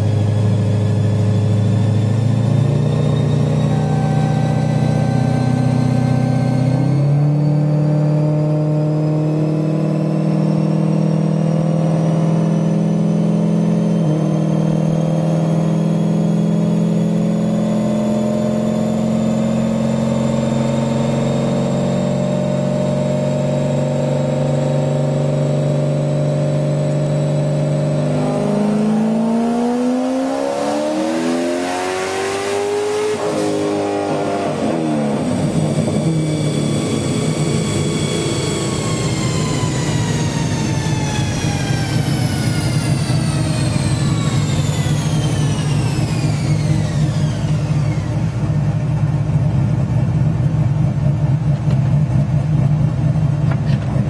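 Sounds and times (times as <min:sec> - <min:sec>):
engine running on dyno: 0:00.0 - 0:54.0.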